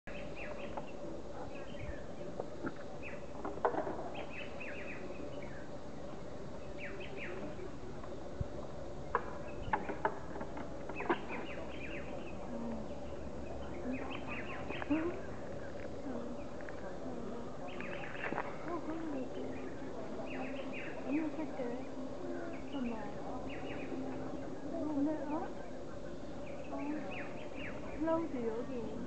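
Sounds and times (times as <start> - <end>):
faint steady hum: 0.1 - 29.0.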